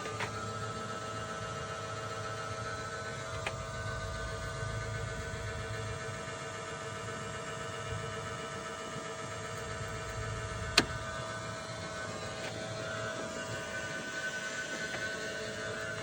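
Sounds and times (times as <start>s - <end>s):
smoke machine humming: 0.0s - 16.0s.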